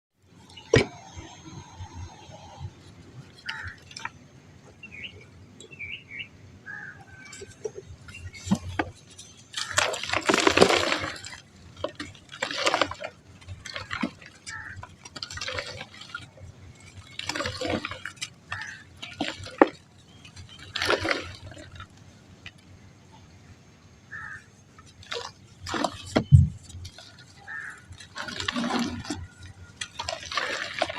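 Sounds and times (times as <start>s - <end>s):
dry mud crumbling: 2.7s - 5.2s, 6.7s - 23.4s, 24.1s - 30.9s.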